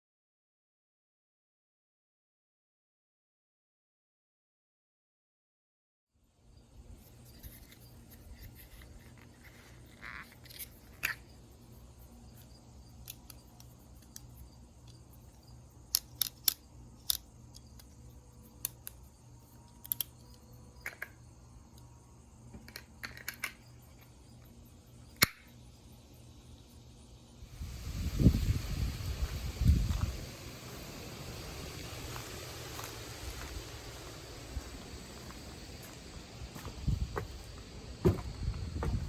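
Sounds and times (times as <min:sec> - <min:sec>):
faint steady hum: 0:06.2 - 0:39.0.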